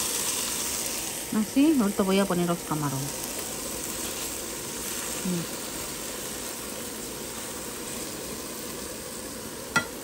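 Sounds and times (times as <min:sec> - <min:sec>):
fish sizzling on a grill: 0:00.0 - 0:10.0.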